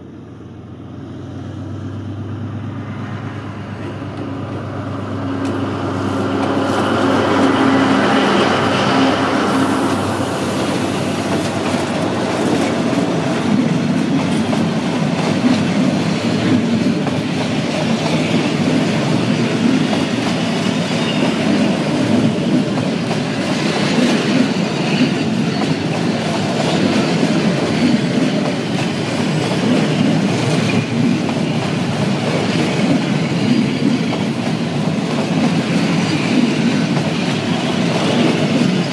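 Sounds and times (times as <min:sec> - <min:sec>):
train rumbling past: 0:00.0 - 0:38.9.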